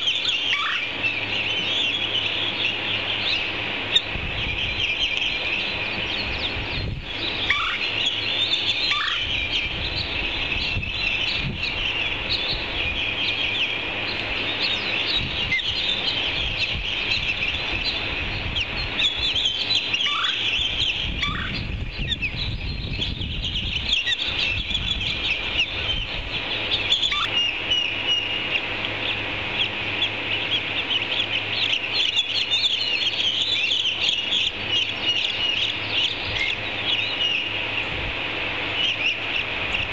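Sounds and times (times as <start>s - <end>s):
ospreys chirping: 0.0s - 39.9s.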